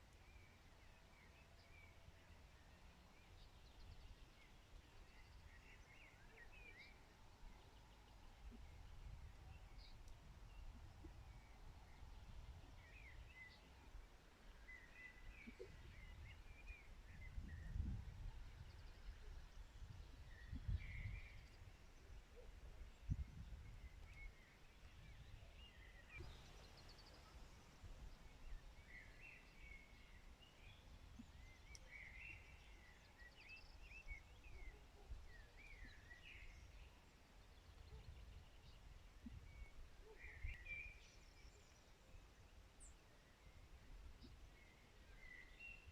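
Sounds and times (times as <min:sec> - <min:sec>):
songbird warbling song: 0:00.0 - 0:45.9
birds chirping and twittering: 0:00.1 - 0:45.9.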